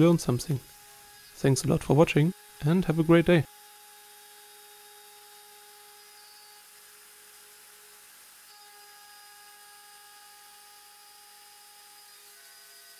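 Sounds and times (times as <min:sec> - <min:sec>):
router machine whine: 0:00.0 - 0:12.9.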